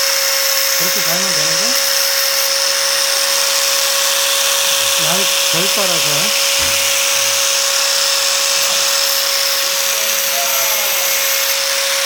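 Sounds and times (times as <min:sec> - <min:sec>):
power tool hissing with steady tone: 0:00.0 - 0:12.0.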